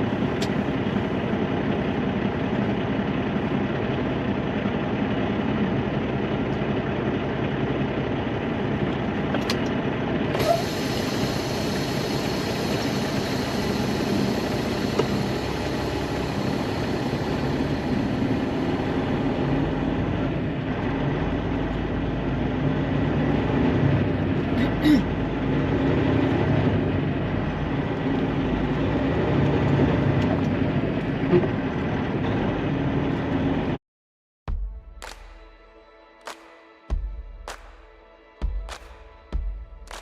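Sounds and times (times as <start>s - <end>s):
diesel engine low drone: 0.0s - 33.8s.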